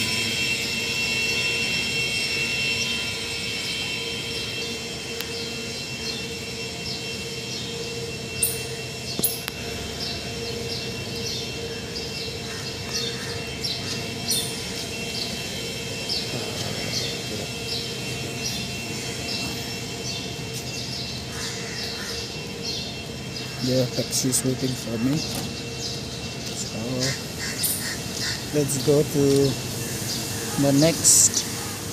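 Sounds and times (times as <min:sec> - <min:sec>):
mechanical hum with high whine: 0:00.0 - 0:31.9.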